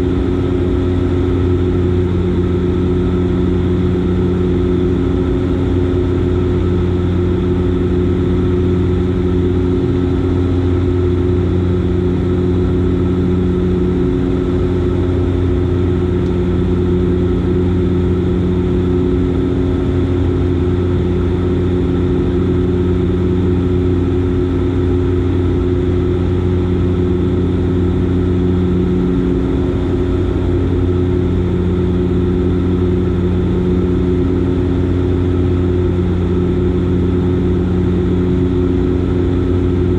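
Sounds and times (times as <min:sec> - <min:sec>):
turboprop engine drone: 0:00.0 - 0:39.9.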